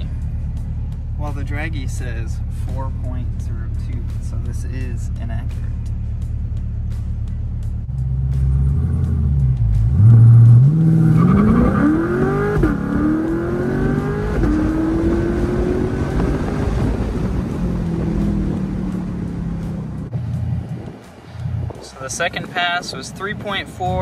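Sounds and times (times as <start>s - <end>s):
car engine rumbling and accelerating: 0.0s - 24.0s.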